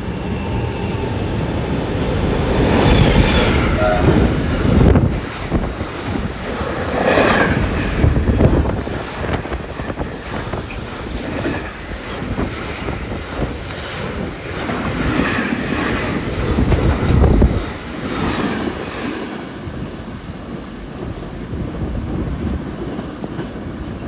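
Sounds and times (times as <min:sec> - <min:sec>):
train passing rumble: 0:00.0 - 0:24.0
wind buffeting microphone: 0:00.0 - 0:24.0.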